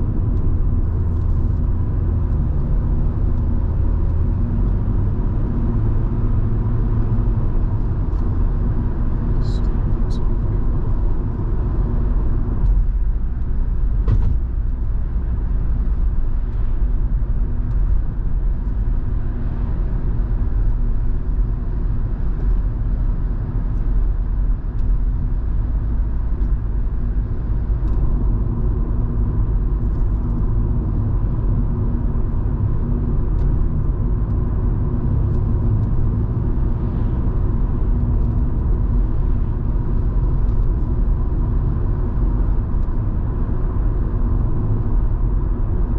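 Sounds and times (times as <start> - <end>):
car engine and road noise drone: 0.0 - 45.9.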